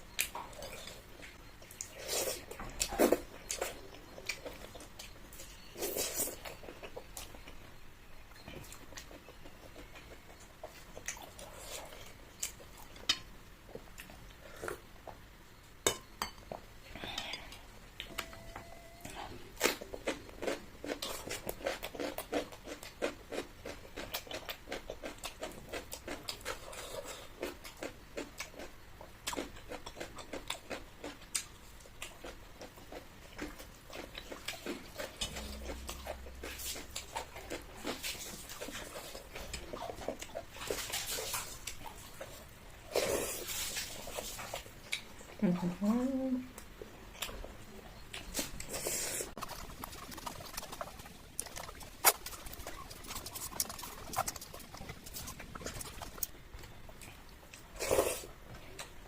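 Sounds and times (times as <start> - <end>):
person chewing food: 0.1 - 15.3, 16.0 - 45.4, 46.8 - 59.0.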